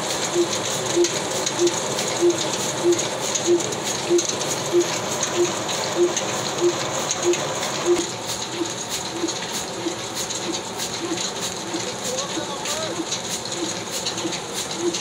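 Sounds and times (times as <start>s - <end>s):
machine whirring clatter: 0.0s - 15.0s.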